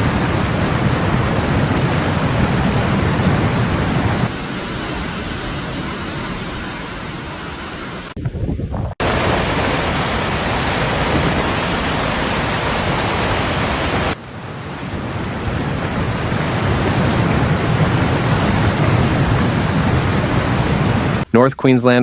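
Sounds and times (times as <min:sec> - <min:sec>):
heavy rain rushing: 0:00.0 - 0:08.3, 0:08.9 - 0:21.3.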